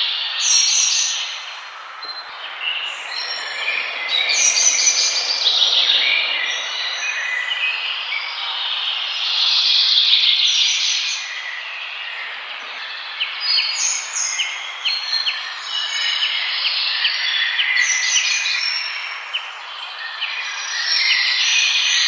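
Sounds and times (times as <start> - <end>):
forest birds chirping and whistling: 0.0 - 22.0.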